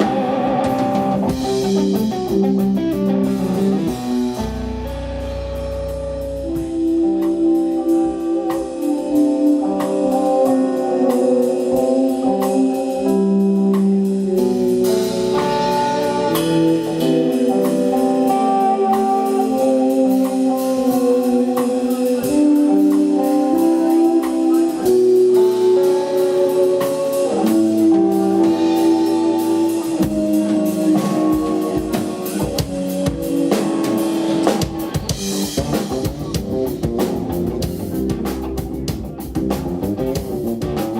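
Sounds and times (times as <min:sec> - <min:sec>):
drum kit: 0:00.0 - 0:40.9
melodic guitar line: 0:00.0 - 0:40.9.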